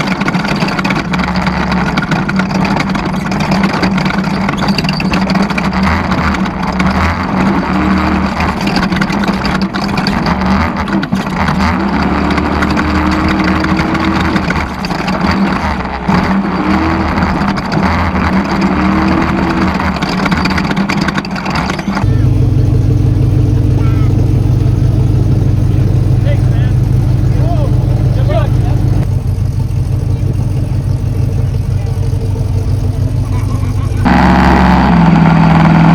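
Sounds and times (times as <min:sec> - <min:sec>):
race vehicle engine running: 0:00.0 - 0:35.9.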